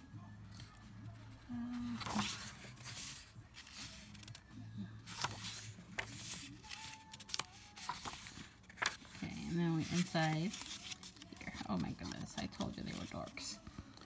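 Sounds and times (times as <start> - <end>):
paper pages turning: 1.7 - 14.0.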